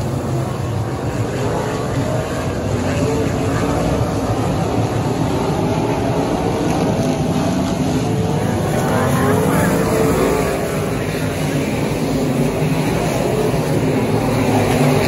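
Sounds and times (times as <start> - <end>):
race car engines droning: 0.0 - 15.0
race car passing close: 0.0 - 15.0.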